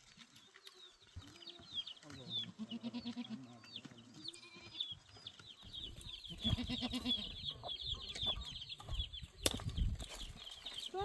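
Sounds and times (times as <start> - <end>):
chickens clucking: 0.2 - 11.0.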